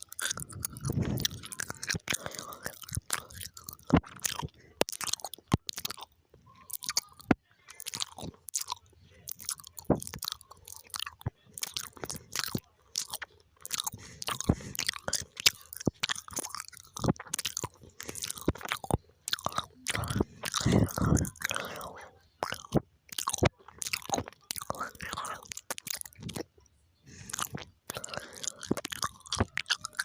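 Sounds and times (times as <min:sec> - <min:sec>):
person chewing gum: 0:00.0 - 0:30.0.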